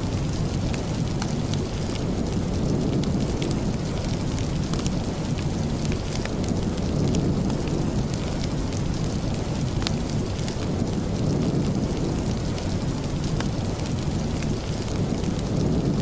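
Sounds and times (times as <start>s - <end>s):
sharp ticks of rain: 0.0s - 16.0s
steady rain hiss: 0.0s - 16.0s.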